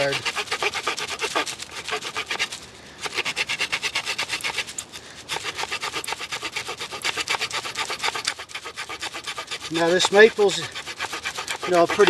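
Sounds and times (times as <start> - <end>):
small saw cutting branch: 0.0 - 12.0.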